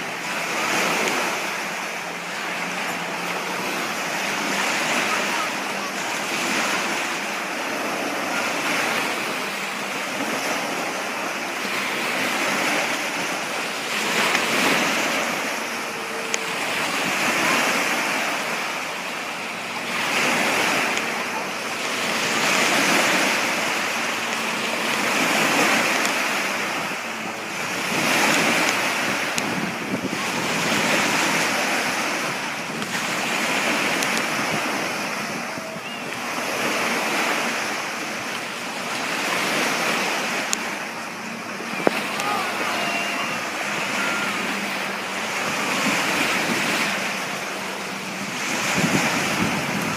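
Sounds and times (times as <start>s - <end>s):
water washing and splashing: 0.0s - 49.9s
wind buffeting microphone: 0.0s - 49.9s.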